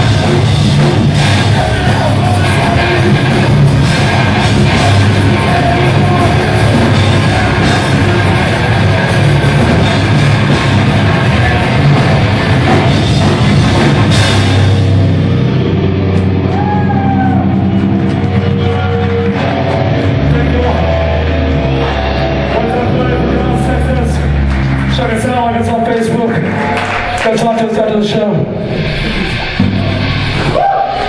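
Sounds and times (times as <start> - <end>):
vocals: 0.0 - 13.6, 18.0 - 31.0
drum kit and cymbals: 0.0 - 22.6, 28.6 - 31.0
bass guitar: 0.0 - 31.0
distorted electric guitars: 0.0 - 31.0.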